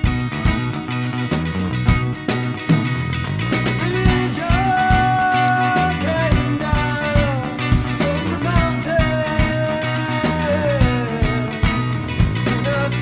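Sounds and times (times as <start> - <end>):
rock song: 0.0 - 13.0.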